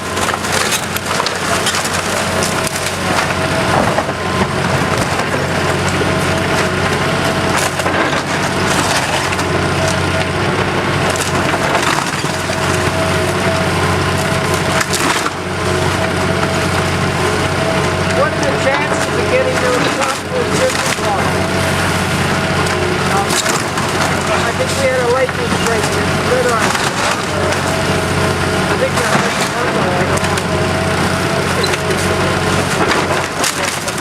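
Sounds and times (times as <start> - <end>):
engine droning: 0.0 - 34.0
wood cracking and splintering: 0.0 - 34.0.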